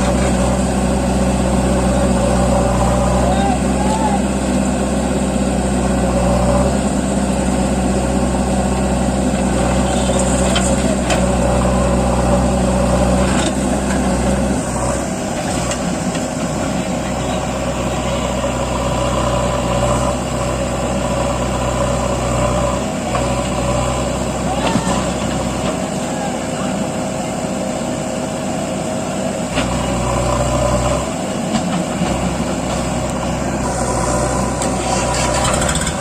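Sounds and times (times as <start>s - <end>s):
diesel tractor engine running: 0.0s - 36.0s.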